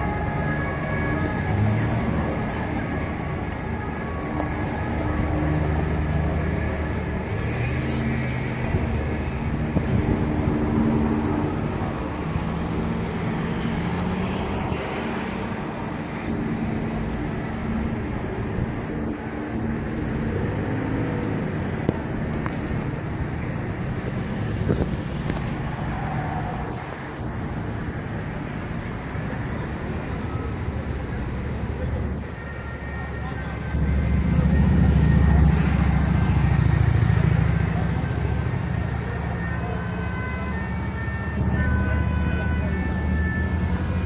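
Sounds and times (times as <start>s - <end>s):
road traffic: 0.0s - 44.0s.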